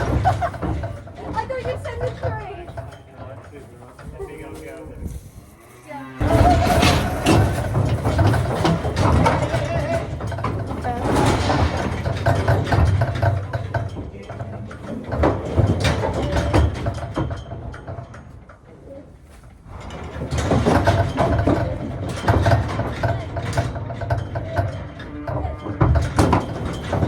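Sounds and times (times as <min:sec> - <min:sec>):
metal clanking and rattling: 0:00.0 - 0:27.0.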